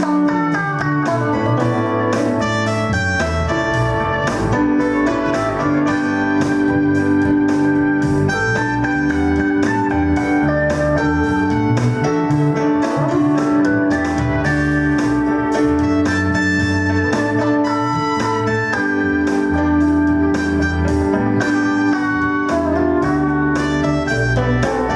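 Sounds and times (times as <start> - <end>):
church keyboard chords: 0.0 - 24.9
steady beat: 0.0 - 24.9.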